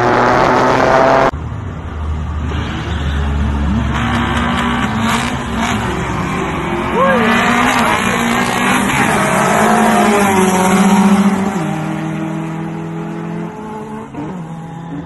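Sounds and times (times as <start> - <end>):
cars revving and accelerating: 0.0 - 15.0.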